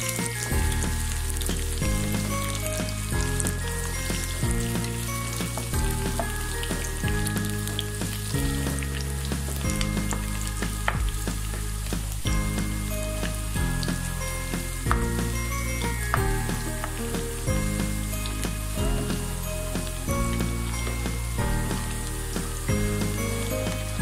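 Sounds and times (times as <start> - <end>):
onions sizzling in hot oil: 0.0 - 24.0
soft background music: 0.0 - 24.0.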